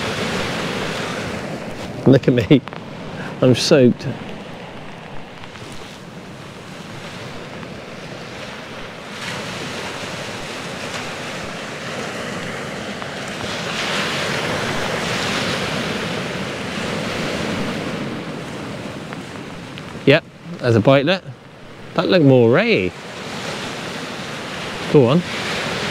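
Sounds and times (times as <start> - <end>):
sea waves breaking on shore: 0.0 - 25.9
wind buffeting microphone: 0.0 - 25.9.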